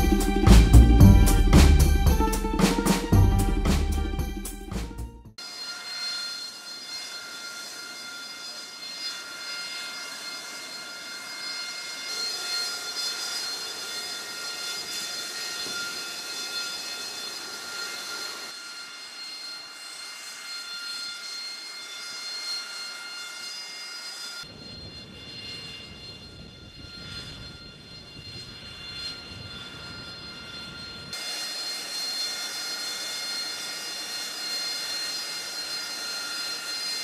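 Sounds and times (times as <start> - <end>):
jet engine whine: 0.0 - 37.0.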